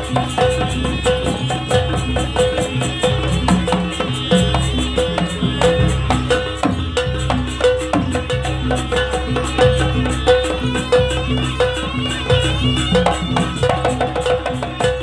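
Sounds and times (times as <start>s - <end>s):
drums: 0.0s - 15.0s
wavering reed melody: 0.0s - 15.0s.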